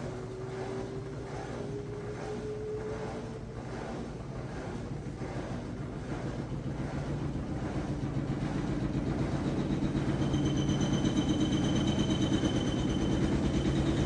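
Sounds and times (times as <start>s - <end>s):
washing machine drum spinning: 0.0s - 14.0s.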